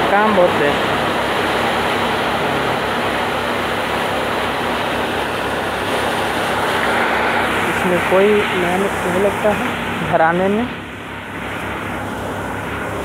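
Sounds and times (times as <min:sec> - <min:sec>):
thresher running: 0:00.0 - 0:13.0.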